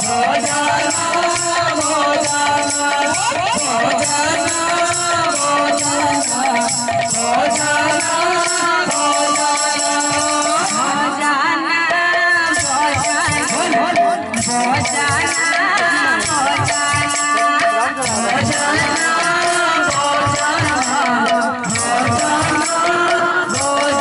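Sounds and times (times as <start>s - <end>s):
jingle rings: 0.0s - 11.0s, 12.6s - 24.0s
hand drums: 0.0s - 24.0s
woman singing devotional lines: 0.0s - 24.0s.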